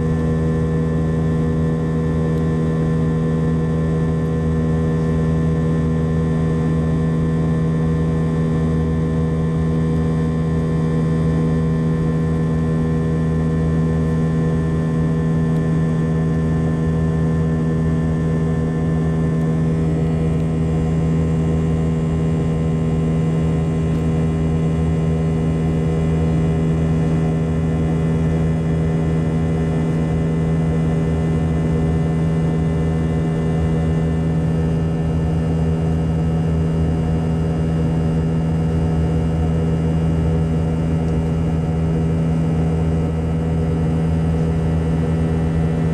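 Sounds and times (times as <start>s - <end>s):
jet engines droning in cabin: 0.0s - 45.9s.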